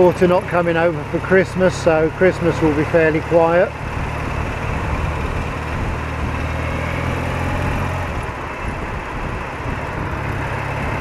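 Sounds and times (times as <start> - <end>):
motorcycle engine running: 0.0 - 11.0
road noise: 0.0 - 11.0
rushing wind: 0.0 - 11.0.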